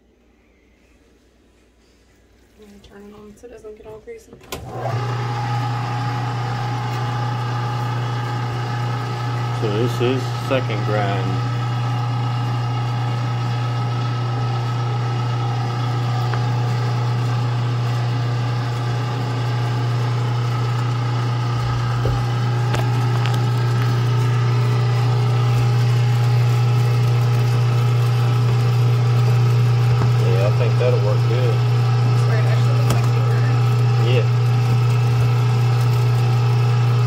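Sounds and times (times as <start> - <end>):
electric meat grinder humming: 4.6 - 37.0.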